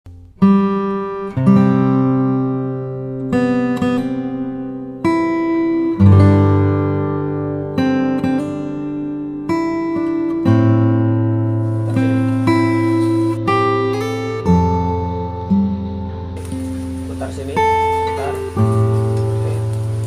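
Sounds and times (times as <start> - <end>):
acoustic guitar chords: 0.1 - 20.0.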